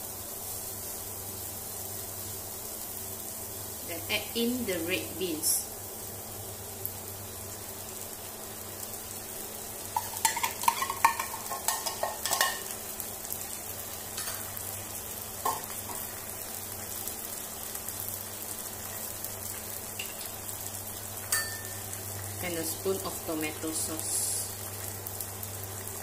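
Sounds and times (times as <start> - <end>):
onion and garlic sizzling in pan: 0.0 - 26.0.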